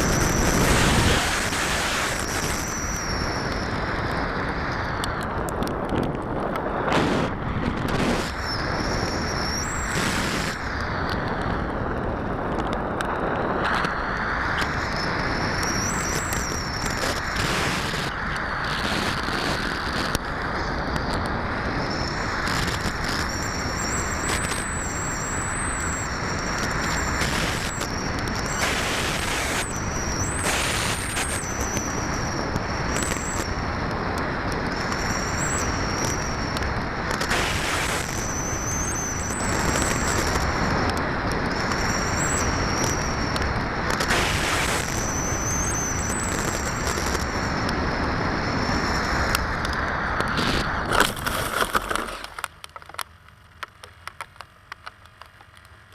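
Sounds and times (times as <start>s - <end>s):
thin high whine: 0.0s - 5.3s, 6.6s - 11.1s, 13.2s - 34.1s, 34.7s - 49.7s
air rushing over camera: 0.0s - 52.5s.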